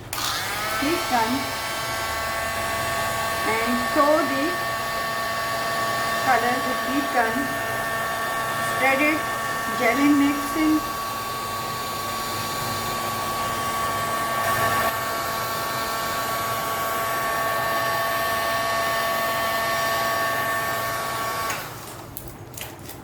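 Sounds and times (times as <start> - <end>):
heat gun blowing: 0.0 - 21.8
motor whine: 0.1 - 21.9.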